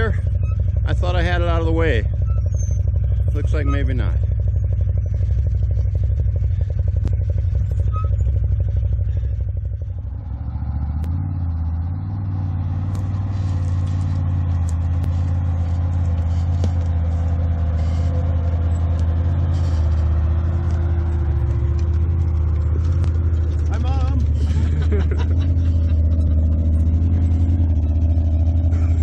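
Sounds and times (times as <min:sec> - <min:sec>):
buggy engine running: 0:00.0 - 0:29.0.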